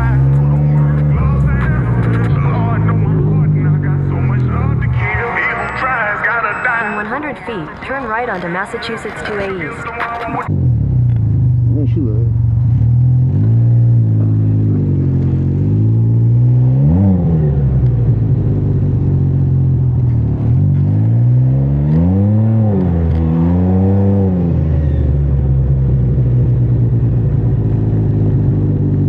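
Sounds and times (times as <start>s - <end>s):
three-wheeler engine revving: 0.0s - 7.1s, 10.5s - 29.0s.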